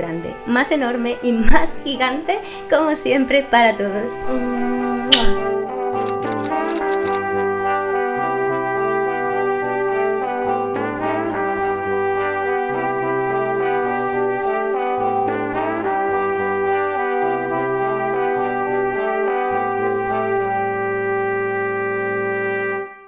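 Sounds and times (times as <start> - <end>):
background music with bass line: 4.2 - 23.0.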